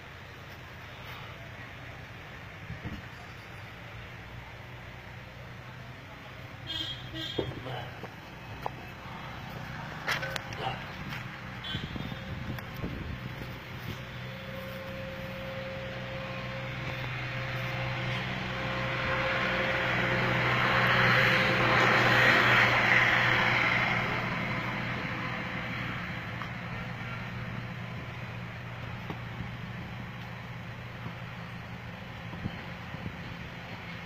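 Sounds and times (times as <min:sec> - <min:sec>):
van engine running: 0:00.0 - 0:34.0.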